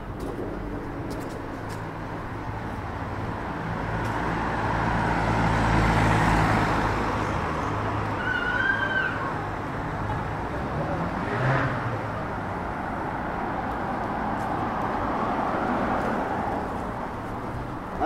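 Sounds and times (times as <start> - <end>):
vehicle passing: 0.4 - 18.0.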